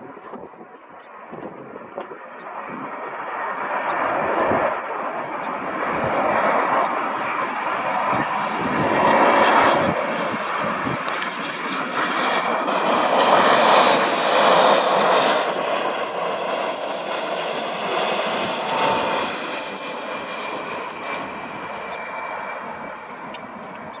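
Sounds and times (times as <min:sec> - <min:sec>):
jet airliner passing low: 0:00.0 - 0:24.0.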